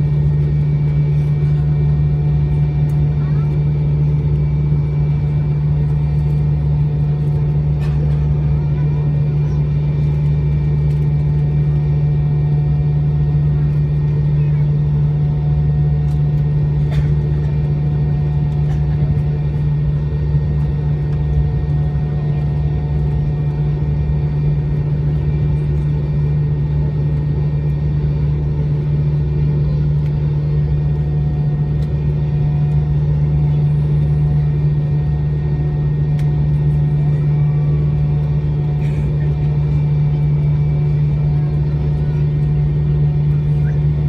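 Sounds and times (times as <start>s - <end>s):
aircraft engines droning: 0.0s - 44.0s.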